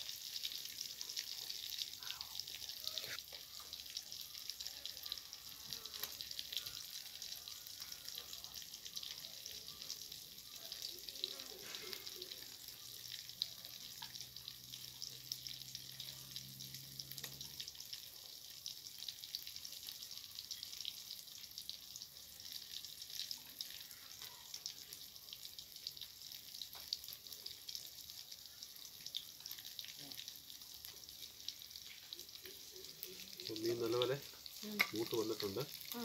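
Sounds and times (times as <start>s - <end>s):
fish sizzling in oil: 0.0s - 36.0s.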